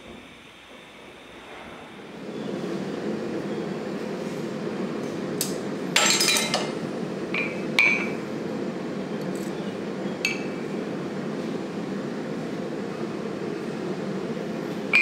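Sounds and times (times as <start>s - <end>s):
low shop hum: 0.0s - 15.0s.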